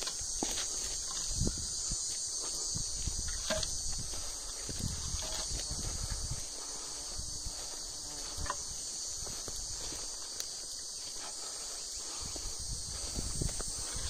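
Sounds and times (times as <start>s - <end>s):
footsteps crunching on stony ground: 0.0s - 14.0s
high-pitched insect drone: 0.0s - 14.0s.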